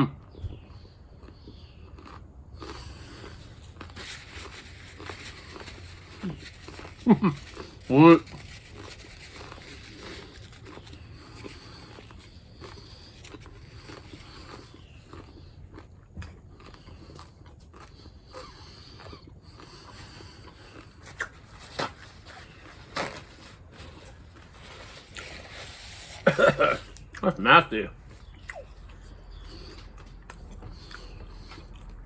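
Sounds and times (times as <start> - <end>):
chewing tortilla chips: 0.2 - 27.4, 28.0 - 32.0.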